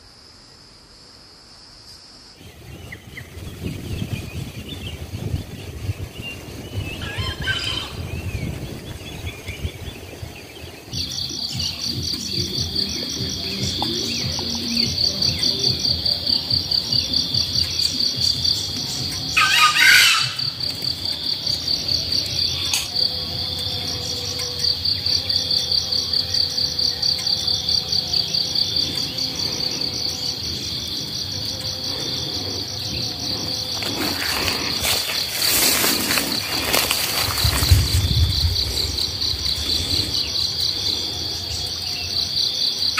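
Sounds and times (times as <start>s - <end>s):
insect trilling: 3.0s - 42.9s.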